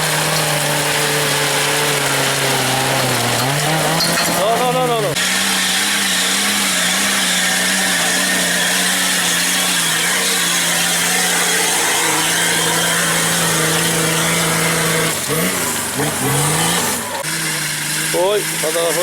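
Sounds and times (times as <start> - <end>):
off-road engine at high revs: 0.0 - 19.0.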